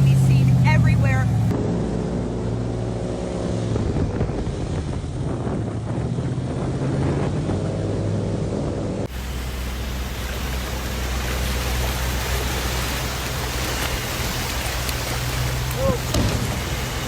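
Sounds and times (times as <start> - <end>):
airboat engine running: 0.0 - 17.0.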